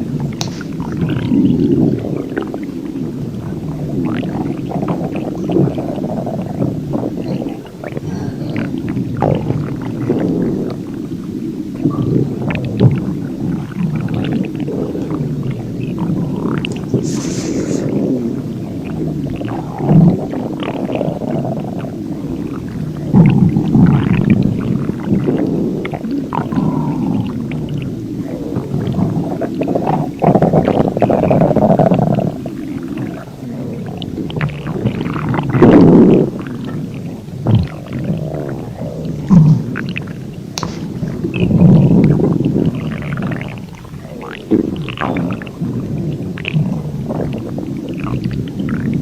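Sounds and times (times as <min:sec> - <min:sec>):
stomach growling: 0:00.0 - 0:49.0.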